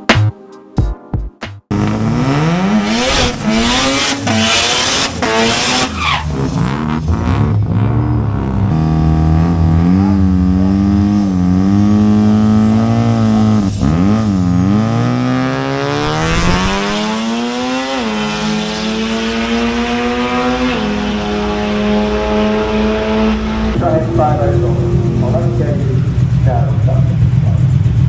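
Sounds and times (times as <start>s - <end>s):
racing car engine revving: 1.7s - 28.0s.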